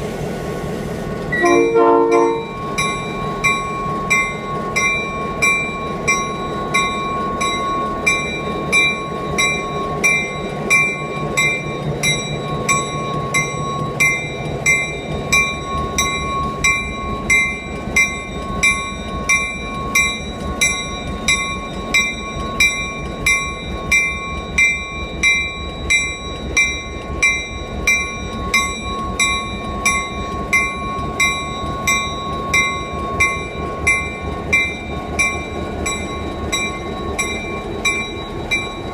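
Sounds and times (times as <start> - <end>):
diesel locomotive engine rumble: 0.0 - 38.9
locomotive bell ringing: 1.3 - 38.9.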